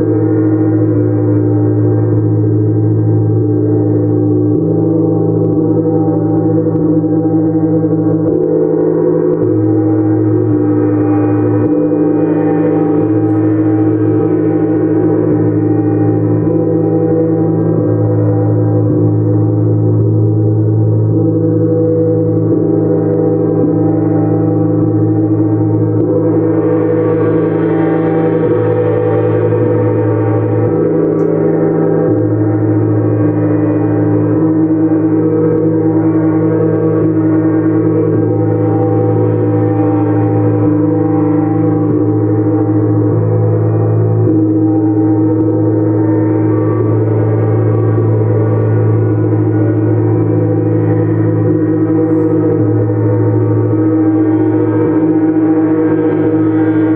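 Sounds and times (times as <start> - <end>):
gongs ringing: 0.0 - 56.9.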